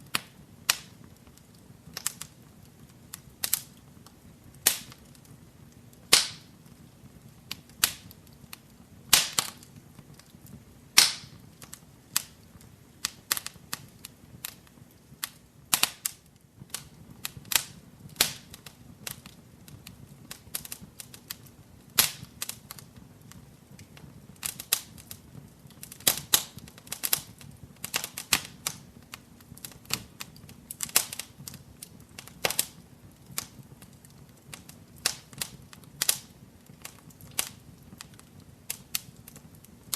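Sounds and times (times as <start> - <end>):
low rumble of burning: 0.0 - 39.9
wood fire pops and snaps: 0.0 - 39.9.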